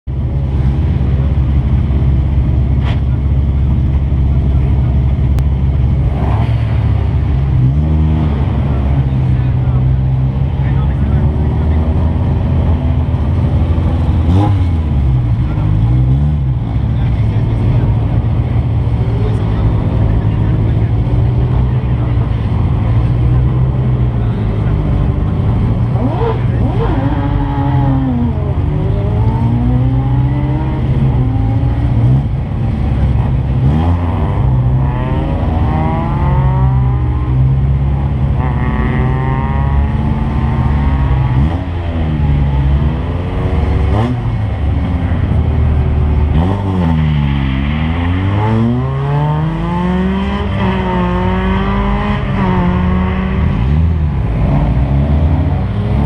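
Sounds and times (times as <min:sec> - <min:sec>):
car engines revving and passing: 0:00.1 - 0:56.0
low engine drone: 0:00.1 - 0:56.0.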